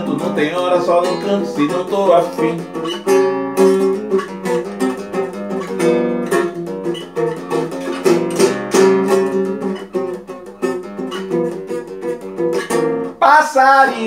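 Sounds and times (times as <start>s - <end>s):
nylon-string guitar playing: 0.0s - 14.0s.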